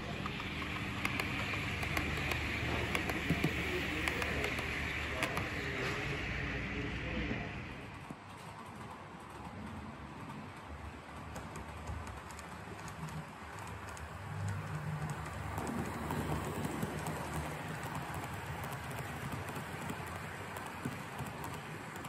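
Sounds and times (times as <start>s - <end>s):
model train wheels rattling: 0.0s - 6.6s, 7.9s - 22.0s.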